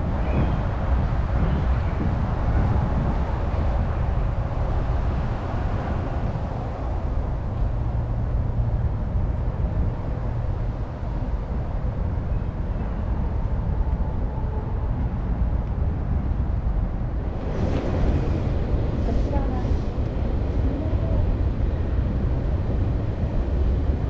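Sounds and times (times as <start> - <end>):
low city rumble: 0.0 - 24.0.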